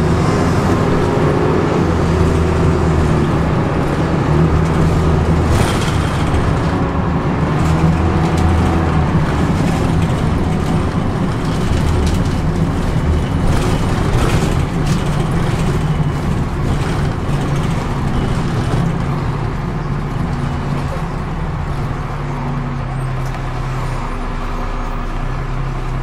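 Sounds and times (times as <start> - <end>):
bus body rattles: 0.0 - 26.0
bus diesel engine running: 0.0 - 26.0
road noise: 0.0 - 26.0.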